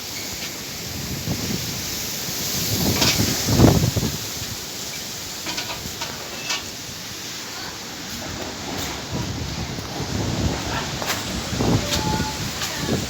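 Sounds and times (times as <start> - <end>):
storm wind and rain: 0.0 - 13.0.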